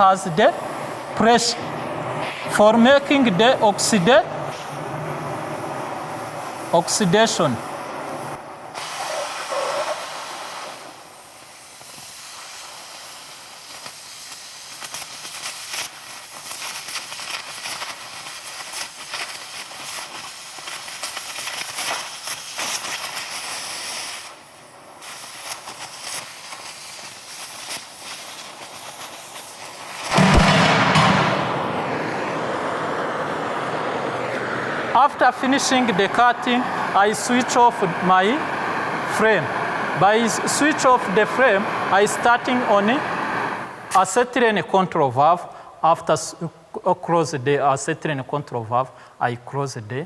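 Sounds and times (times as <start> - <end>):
sparks and slag crackling: 0.0 - 32.1, 35.3 - 44.1
cutting torch hissing: 0.0 - 44.3.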